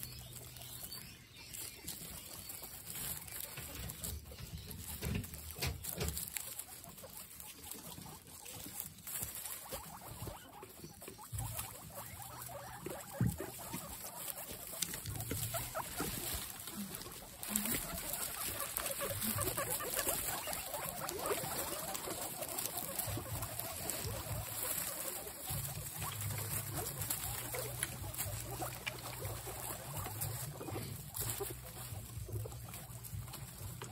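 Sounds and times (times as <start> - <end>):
guinea pigs squeaking: 0.0 - 33.9
rustling straw: 0.0 - 33.9.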